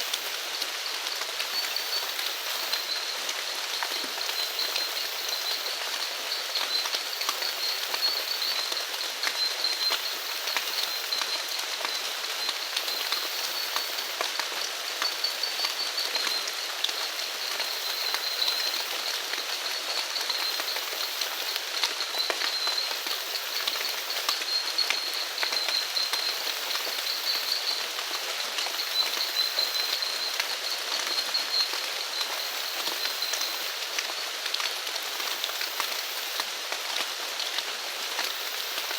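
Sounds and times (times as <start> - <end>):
insects trilling: 0.0 - 38.9
rain falling: 0.0 - 38.9
raindrops ticking: 0.1 - 37.6.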